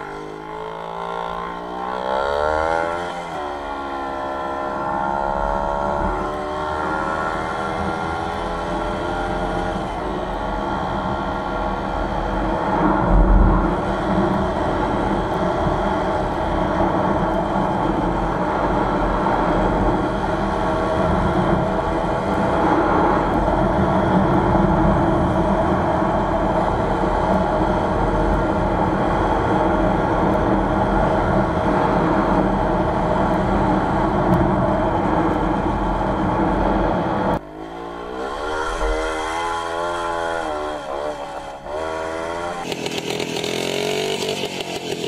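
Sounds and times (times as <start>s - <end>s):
two-stroke motorcycle engine running: 0.0s - 45.0s.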